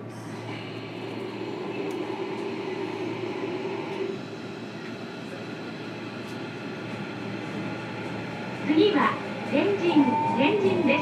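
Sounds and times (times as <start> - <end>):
train hum: 0.0 - 11.0
train running rumble: 0.0 - 11.0.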